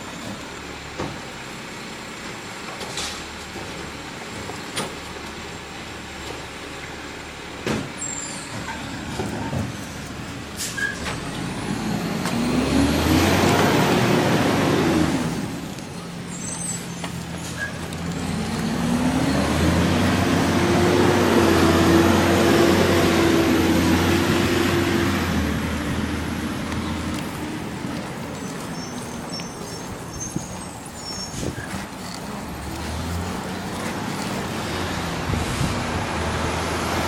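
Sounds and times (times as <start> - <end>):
garbage truck engine revving: 0.0 - 37.0.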